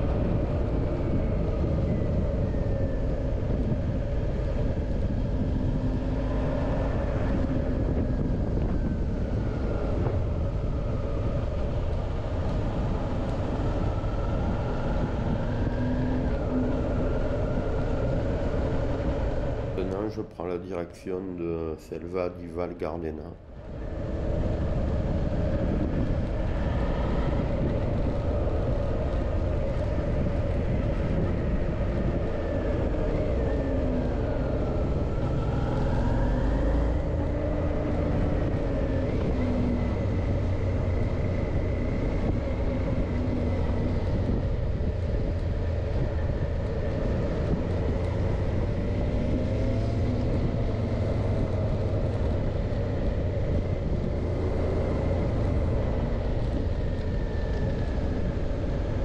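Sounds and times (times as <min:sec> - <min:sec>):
wind noise rumble: 0:00.0 - 0:59.0.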